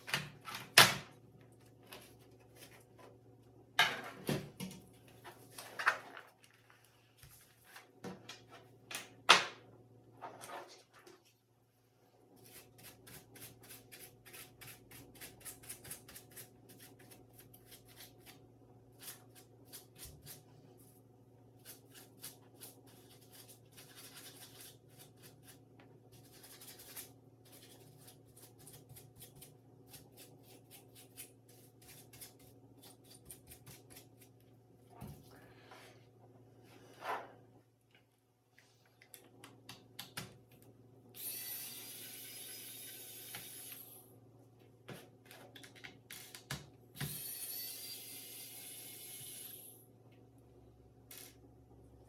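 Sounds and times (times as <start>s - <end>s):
low electrical hum: 0.0s - 52.0s.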